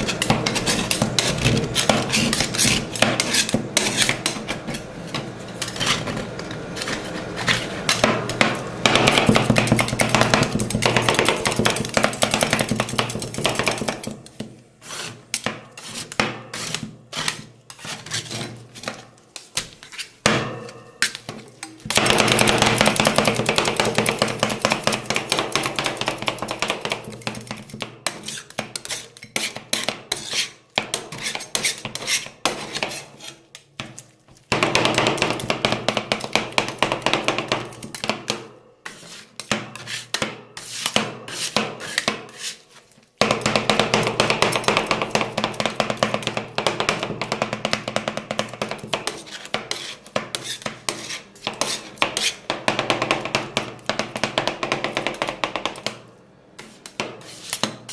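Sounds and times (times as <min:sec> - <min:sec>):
metal spatulas chopping on plate: 0:00.0 - 0:57.9.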